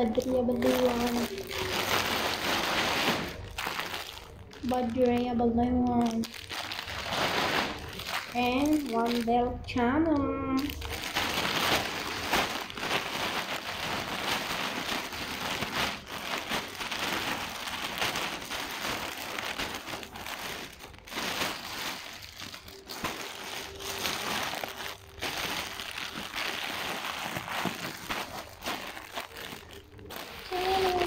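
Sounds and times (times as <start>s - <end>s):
plastic bag rustling: 0.0s - 31.0s.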